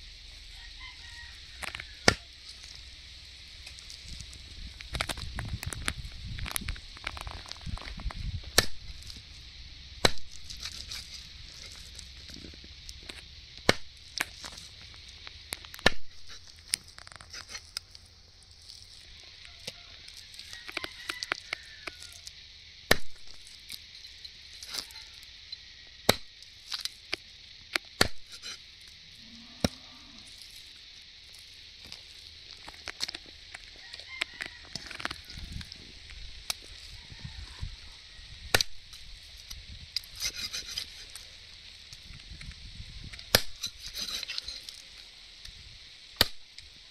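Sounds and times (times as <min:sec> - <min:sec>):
steady high hiss: 0:00.0 - 0:46.9.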